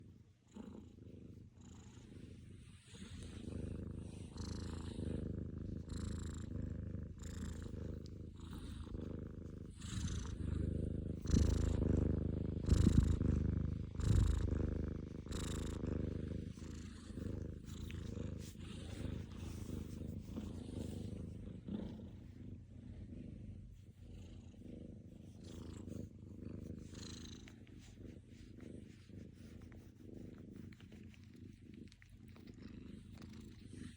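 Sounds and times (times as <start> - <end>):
cat snoring rumble: 0.0 - 33.9.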